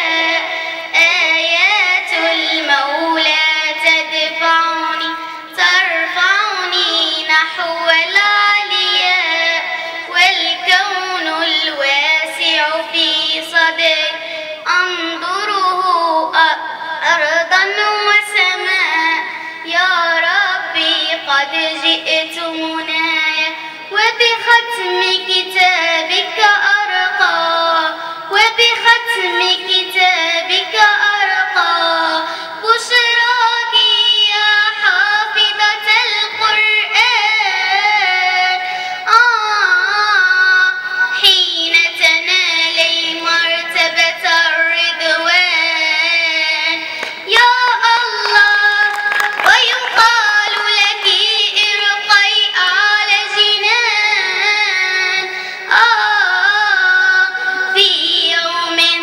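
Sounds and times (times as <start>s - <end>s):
girl singing into a microphone: 0.0s - 59.0s.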